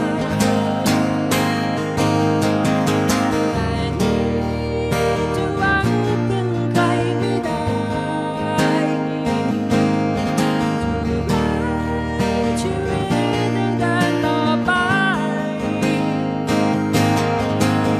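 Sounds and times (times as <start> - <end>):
melodic voice or lead line: 0.0 - 16.3
strummed acoustic guitar: 0.0 - 17.9.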